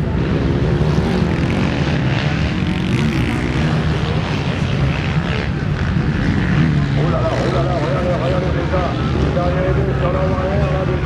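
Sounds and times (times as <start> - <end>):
motocross bike engines racing: 0.0 - 11.0.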